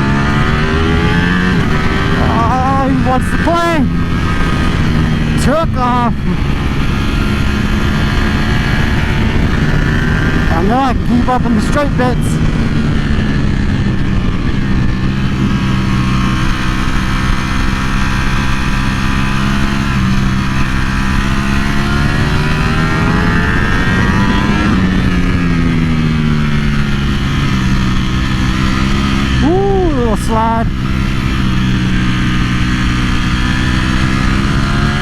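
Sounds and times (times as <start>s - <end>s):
wind rushing: 0.0s - 11.2s, 12.2s - 29.4s
motorcycle engine revving: 0.0s - 35.0s.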